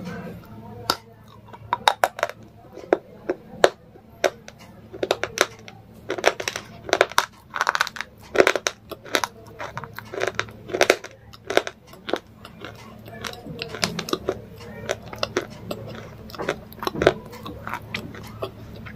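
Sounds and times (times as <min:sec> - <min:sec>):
person chewing crunchy food: 0:00.4 - 0:18.9.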